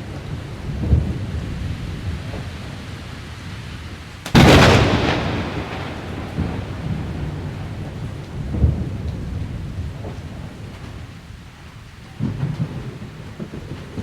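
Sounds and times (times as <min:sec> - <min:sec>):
rain hissing: 0:00.0 - 0:14.0
thunder crack and rumbling: 0:00.0 - 0:14.0.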